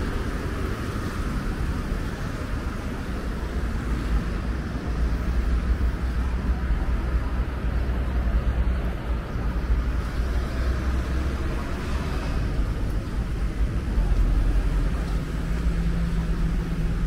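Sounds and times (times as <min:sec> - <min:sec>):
traffic engine rumble: 0:00.0 - 0:17.0.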